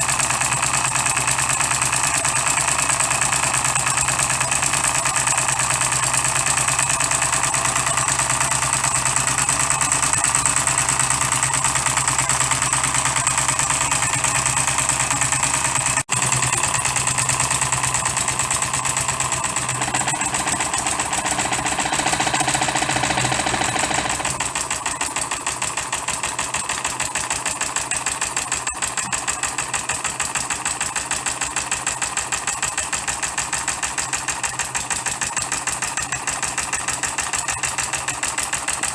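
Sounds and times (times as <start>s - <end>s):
model diesel engine running: 0.0s - 38.9s.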